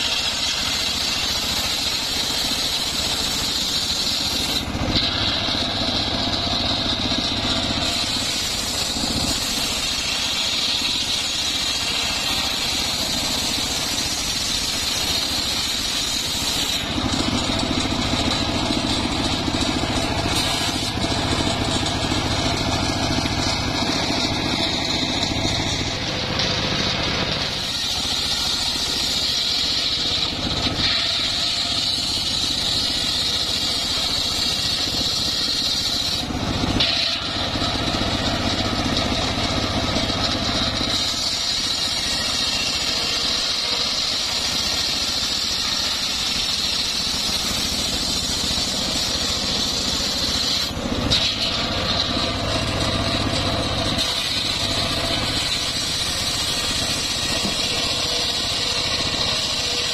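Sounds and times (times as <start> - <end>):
engine droning: 0.0 - 59.9
saw blade whining through log: 0.0 - 59.9.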